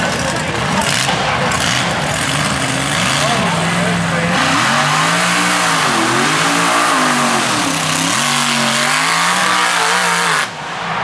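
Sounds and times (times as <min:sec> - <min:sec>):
tires churning through mud: 0:00.0 - 0:11.0
truck engine revving: 0:00.0 - 0:11.0.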